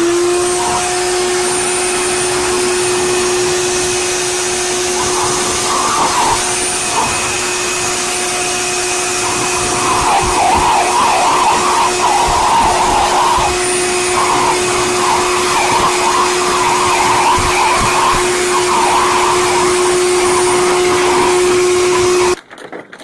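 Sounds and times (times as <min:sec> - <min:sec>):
blow dryer running: 0:00.0 - 0:22.4
higher wavering sound: 0:00.0 - 0:22.4.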